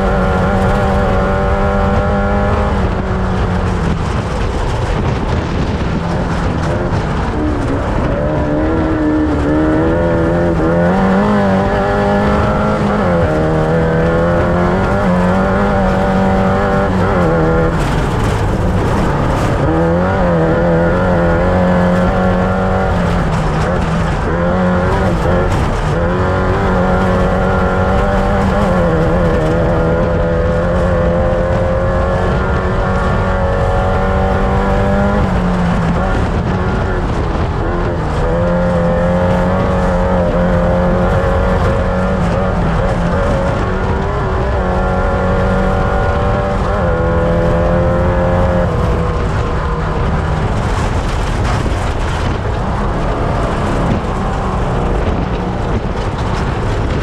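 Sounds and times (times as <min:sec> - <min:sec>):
race vehicle engine running hard: 0:00.0 - 0:57.0.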